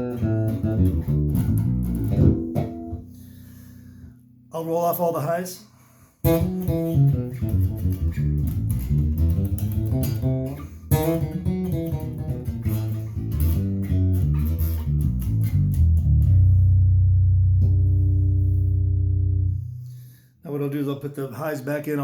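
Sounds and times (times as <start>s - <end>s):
electric bass plucked notes: 0.0s - 4.6s, 6.2s - 20.3s.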